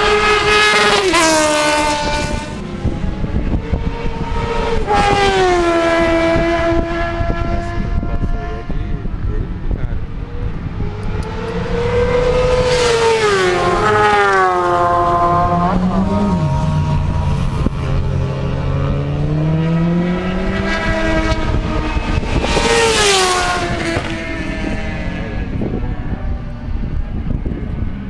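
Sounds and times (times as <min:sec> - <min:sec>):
motorcycle engine accelerating: 0:00.0 - 0:28.0
motorcycles passing at speed: 0:00.0 - 0:28.0.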